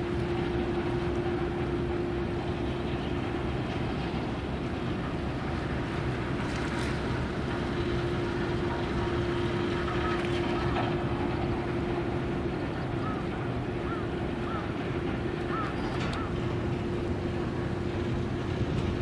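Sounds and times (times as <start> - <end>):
steady hum: 0.0 - 19.0
wind: 0.0 - 19.0.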